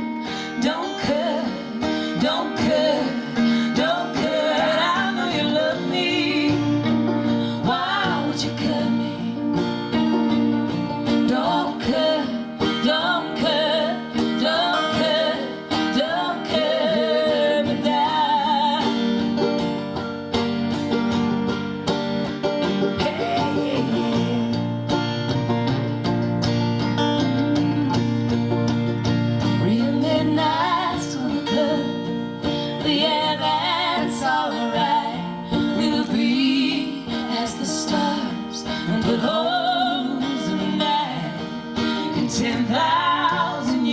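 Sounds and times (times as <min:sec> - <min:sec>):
acoustic guitar: 0:00.0 - 0:43.9.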